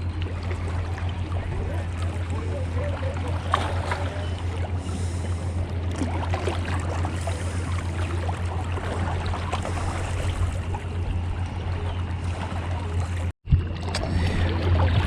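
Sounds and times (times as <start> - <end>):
small water splashes: 0.0 - 15.0
steady low rumble: 0.0 - 15.0
water lapping at shore: 0.0 - 15.0.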